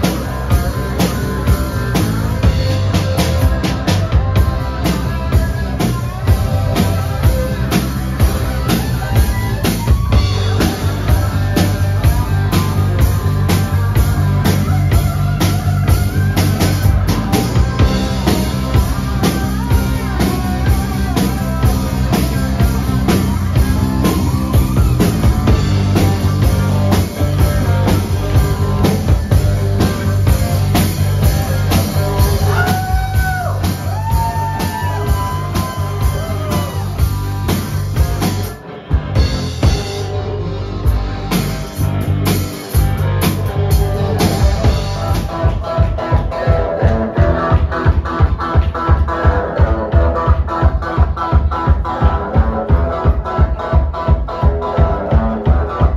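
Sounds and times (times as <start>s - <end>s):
drum kit beat: 0.0s - 55.9s
electric bass: 0.0s - 55.9s
electric guitar: 0.0s - 55.9s.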